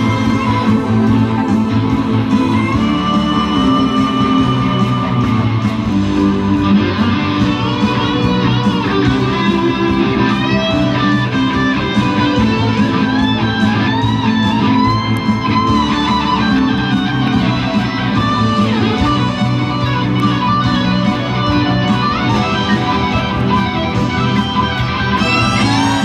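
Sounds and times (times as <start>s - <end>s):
electric guitar playing: 0.0s - 26.0s.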